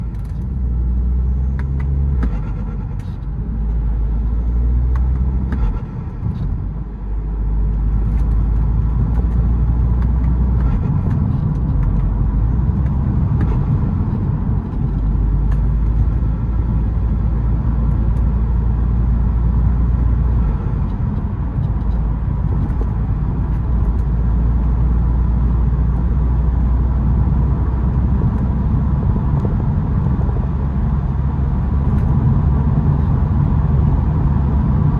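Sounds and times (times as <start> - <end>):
diesel car engine rumbling: 0.0 - 34.9.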